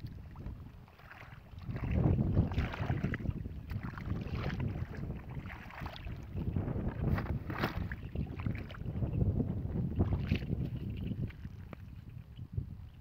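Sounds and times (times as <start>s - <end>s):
wind buffeting microphone: 0.0s - 13.0s
hands splashing in muddy water: 0.3s - 9.1s, 9.8s - 12.2s.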